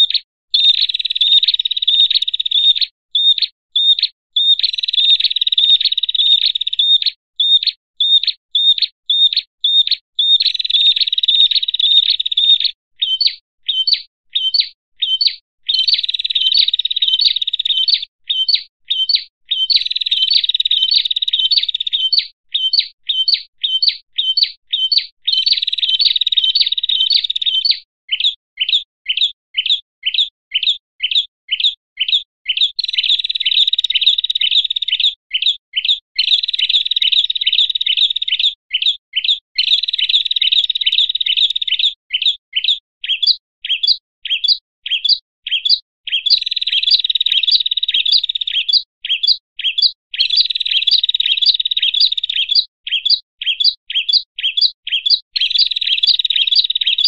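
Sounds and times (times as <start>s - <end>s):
sharp high bird chirps: 0.0s - 57.0s
small songbirds chattering: 0.0s - 57.0s.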